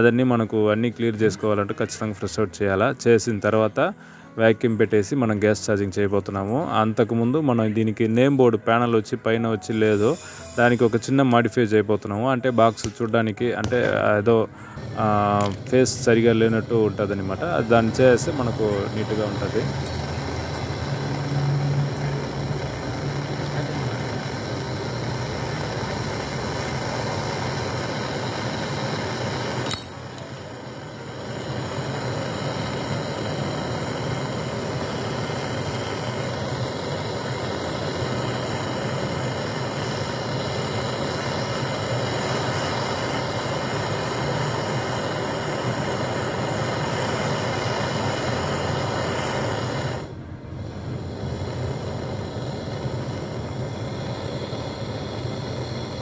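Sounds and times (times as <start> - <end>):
gas torch flame hissing: 8.2 - 56.0.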